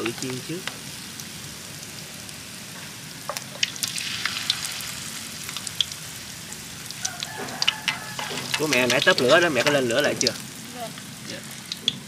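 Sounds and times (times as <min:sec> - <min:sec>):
fish sizzling in hot oil: 0:00.0 - 0:12.0
oil popping crackles: 0:00.0 - 0:12.0.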